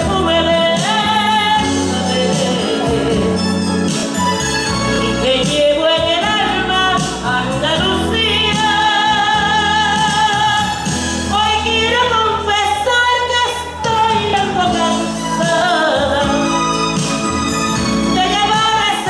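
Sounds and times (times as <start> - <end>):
accompanying music: 0.0 - 19.0
woman singing a ballad: 0.0 - 19.0.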